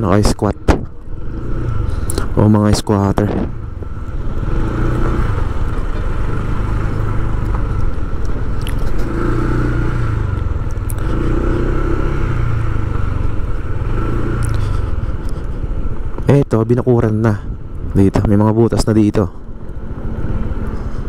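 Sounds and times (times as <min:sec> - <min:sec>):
road noise: 0:00.0 - 0:21.0
vehicle engine running: 0:00.0 - 0:21.0.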